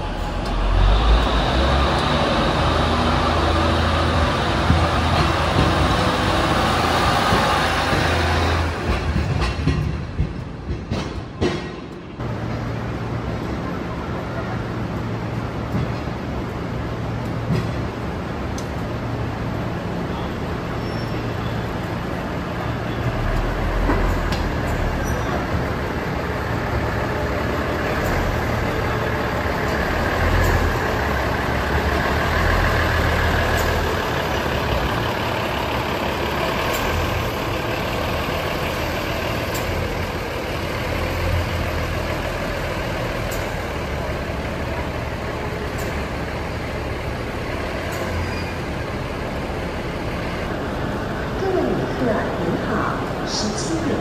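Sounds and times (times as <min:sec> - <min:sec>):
diesel railcar engine drone: 0:00.0 - 0:54.0.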